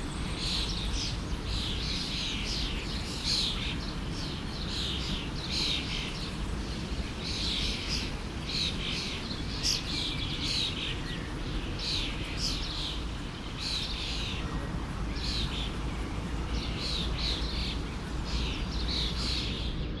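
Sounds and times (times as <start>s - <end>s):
forest stream flowing: 0.0s - 20.0s
songbirds chirping: 0.0s - 20.0s.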